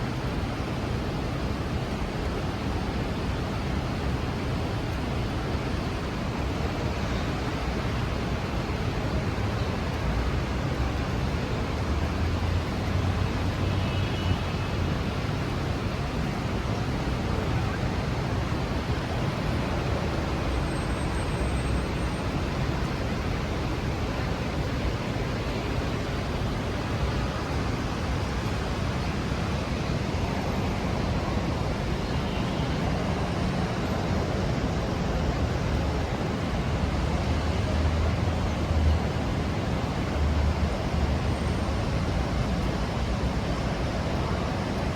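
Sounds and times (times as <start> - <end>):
traffic on wet streets: 0.0 - 44.9.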